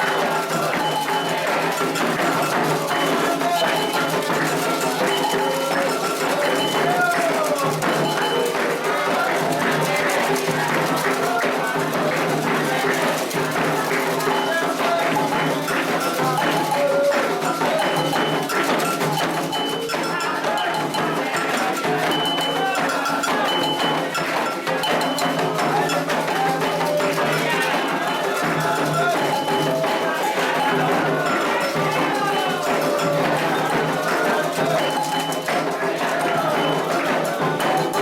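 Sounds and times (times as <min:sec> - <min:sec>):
bell struck in rhythm: 0:00.0 - 0:38.0
drums: 0:00.0 - 0:38.0
voices singing together: 0:00.0 - 0:38.0.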